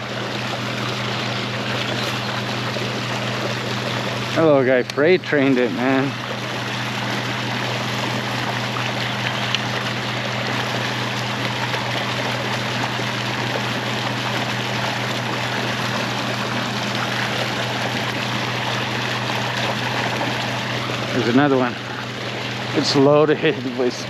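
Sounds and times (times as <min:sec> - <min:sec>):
low hum: 0:00.0 - 0:24.0
water gushing into river: 0:00.0 - 0:24.0.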